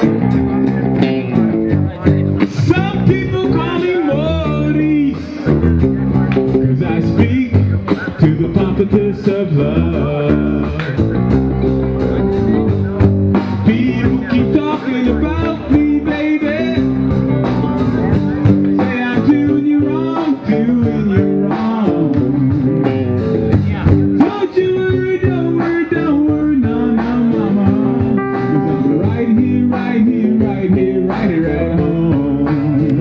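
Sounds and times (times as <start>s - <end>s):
guitar-driven blues-rock music: 0.0s - 33.0s.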